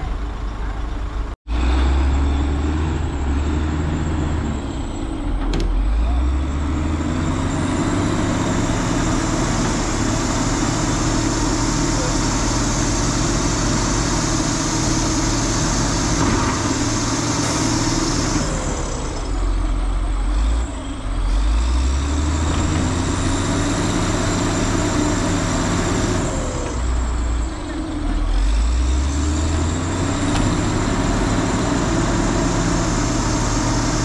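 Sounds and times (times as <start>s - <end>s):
heavy diesel engines under load: 0.0s - 34.0s.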